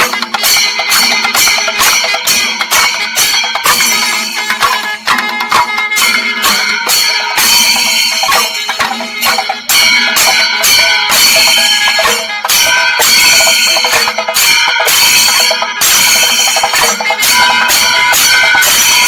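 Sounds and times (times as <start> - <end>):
drums playing fast rhythm: 0.0 - 19.0
hand cymbals ringing: 0.0 - 19.0.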